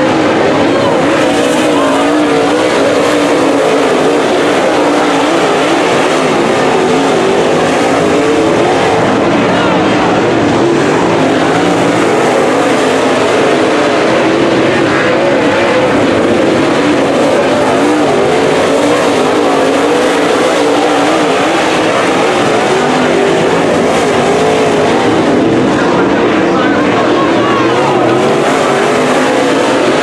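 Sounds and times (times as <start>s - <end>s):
race car engine running hard: 0.0s - 30.0s.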